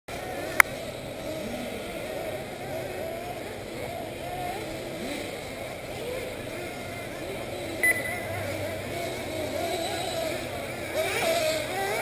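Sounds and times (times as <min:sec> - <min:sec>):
rc buggy engines buzzing: 0:00.1 - 0:12.0.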